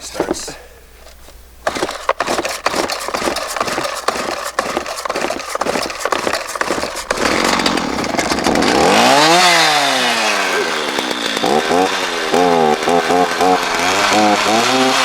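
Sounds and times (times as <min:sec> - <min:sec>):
chainsaw engine running: 0:01.6 - 0:15.0.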